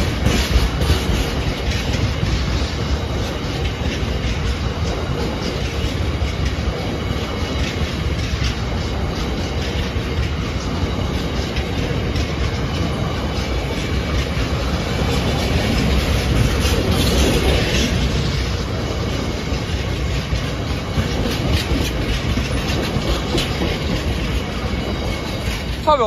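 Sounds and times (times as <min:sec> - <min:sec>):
wheels knocking on rail joints: 0:00.0 - 0:25.8
freight train rolling past: 0:00.0 - 0:26.0.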